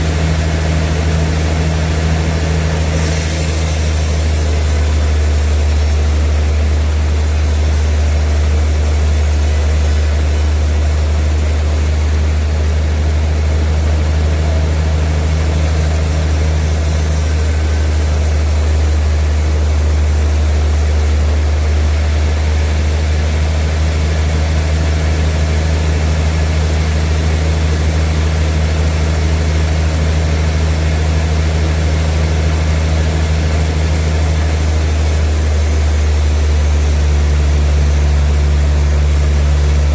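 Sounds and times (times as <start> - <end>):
machinery hiss: 0.0 - 39.9
sawmill machinery humming: 0.0 - 39.9.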